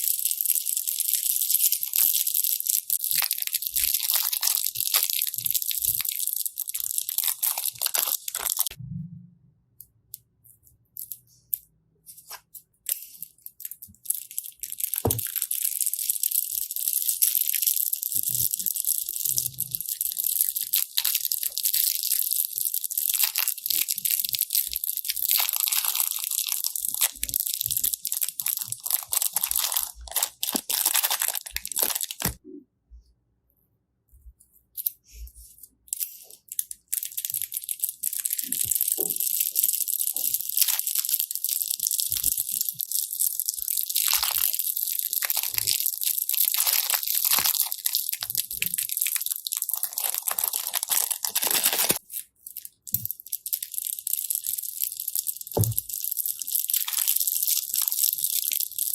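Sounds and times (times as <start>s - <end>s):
slime crackling when squeezed: 0.0s - 8.8s, 12.2s - 32.4s, 35.9s - 58.9s.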